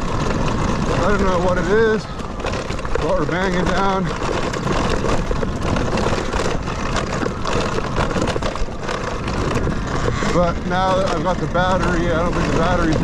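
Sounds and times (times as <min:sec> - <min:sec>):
dirt bike knocking and rattling: 0:00.0 - 0:13.0
rushing wind: 0:00.0 - 0:13.0.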